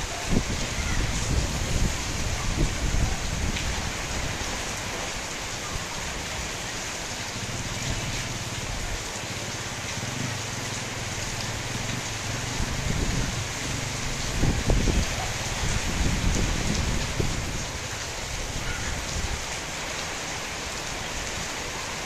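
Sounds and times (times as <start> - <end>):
rain on metal roofs: 0.0 - 22.0.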